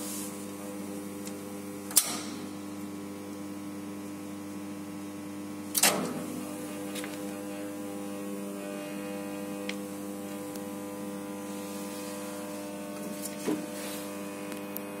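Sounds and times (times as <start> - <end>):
electrical hum with overtones: 0.0 - 15.0.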